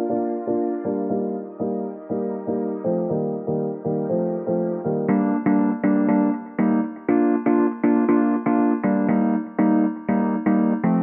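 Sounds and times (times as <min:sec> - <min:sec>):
keyboard playing repeated chords: 0:00.0 - 0:11.0.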